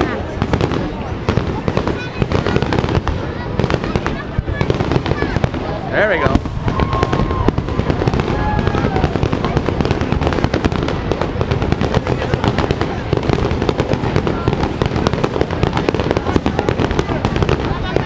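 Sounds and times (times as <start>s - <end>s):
fireworks bursting with bangs and crackles: 0.0s - 18.0s.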